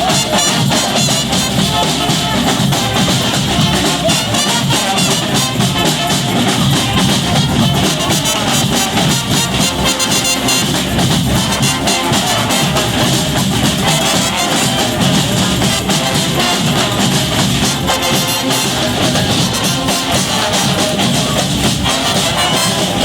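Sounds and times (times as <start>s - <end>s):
brass band playing: 0.0s - 23.0s.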